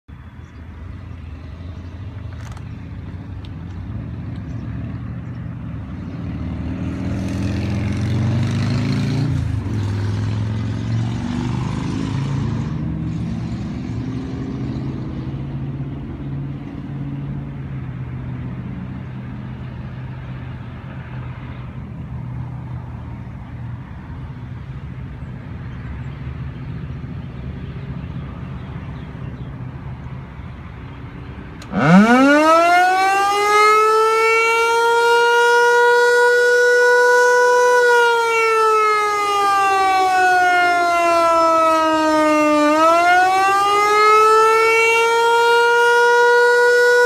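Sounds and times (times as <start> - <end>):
vehicle engine humming: 0.1 - 47.0
vehicle passing with road noise: 0.1 - 47.0.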